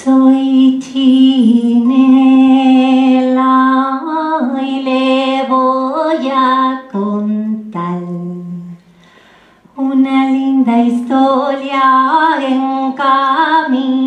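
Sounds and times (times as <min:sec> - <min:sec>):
woman singing wordless melody: 0:00.0 - 0:08.9, 0:09.7 - 0:14.0.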